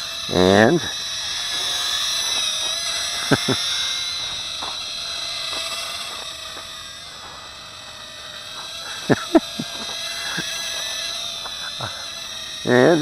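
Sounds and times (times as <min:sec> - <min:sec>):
tiny drone motors whining: 0:00.0 - 0:13.0.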